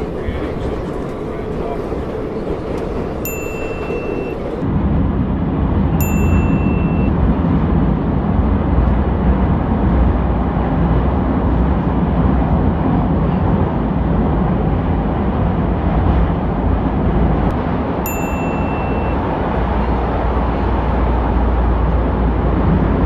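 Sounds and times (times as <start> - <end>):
subway train rumbling: 0.0 - 23.0.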